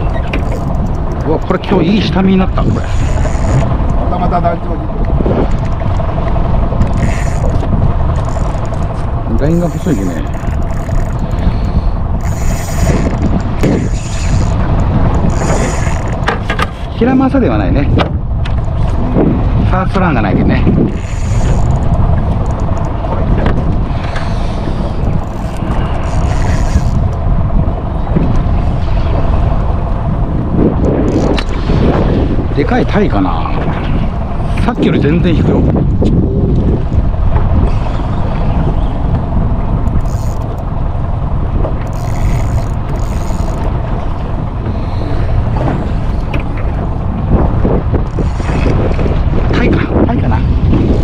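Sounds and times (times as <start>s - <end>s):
boat engine: 0.0s - 51.0s
water noise: 0.0s - 51.0s
wind rumble on microphone: 0.0s - 51.0s.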